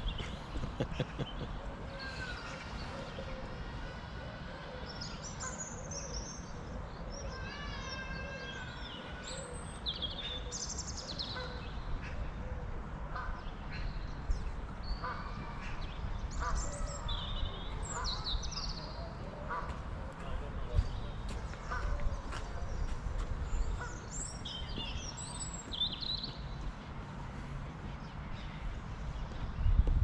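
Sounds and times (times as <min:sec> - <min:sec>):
wild birds chirping: 0:00.0 - 0:29.4.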